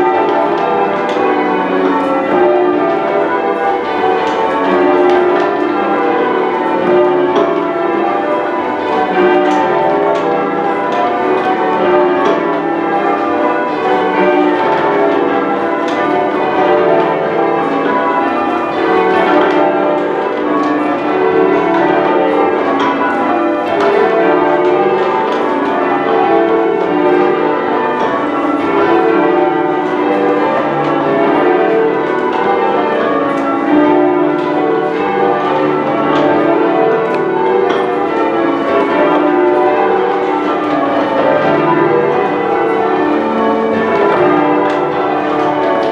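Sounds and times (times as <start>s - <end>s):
church bells change ringing: 0.0s - 45.9s.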